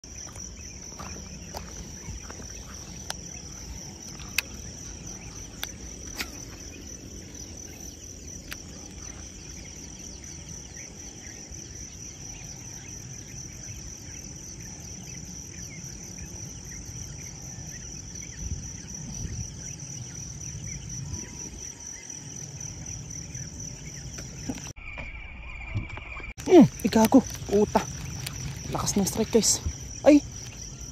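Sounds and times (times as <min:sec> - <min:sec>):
insects trilling: 0:00.0 - 0:30.9.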